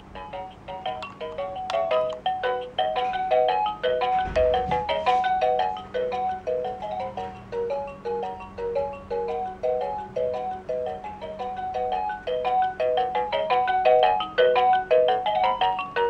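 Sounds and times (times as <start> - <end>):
beepy electronic toy tune: 0.0 - 16.0.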